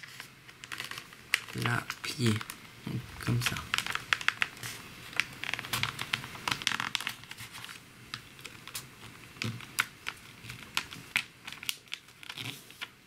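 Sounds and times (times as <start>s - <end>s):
paper crinkling: 0.0s - 13.0s.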